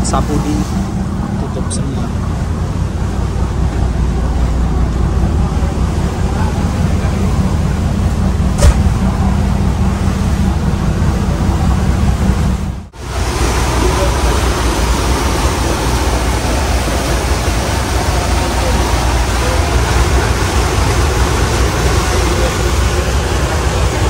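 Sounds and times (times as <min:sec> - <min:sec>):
diesel engine drone: 0:00.0 - 0:24.0
wind and sea rushing: 0:00.0 - 0:24.0.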